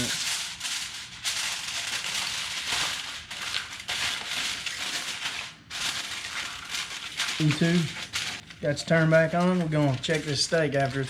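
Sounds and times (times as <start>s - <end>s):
aluminum foil crinkling: 0.0s - 11.0s.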